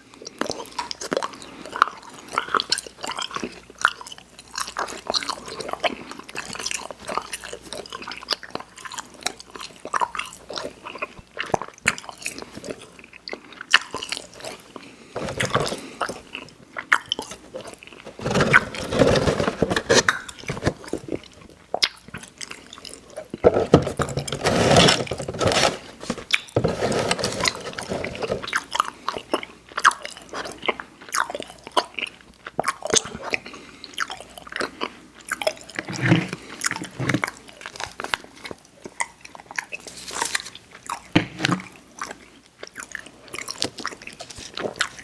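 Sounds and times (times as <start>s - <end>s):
wet chewing of candy: 0.0s - 45.0s.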